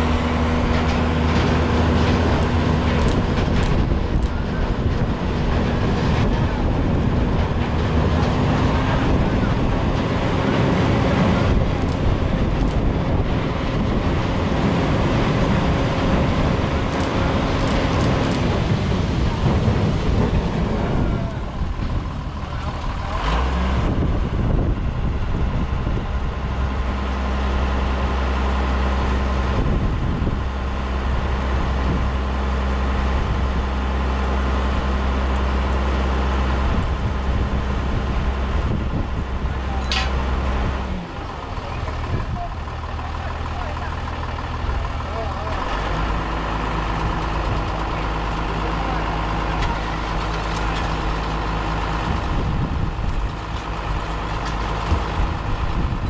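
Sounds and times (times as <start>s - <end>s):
diesel engine idling: 0.0s - 56.0s
diesel engines running: 0.0s - 56.0s.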